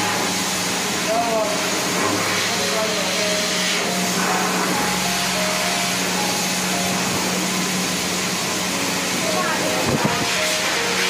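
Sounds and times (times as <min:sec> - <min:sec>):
shower sprayer water running: 0:00.0 - 0:11.0.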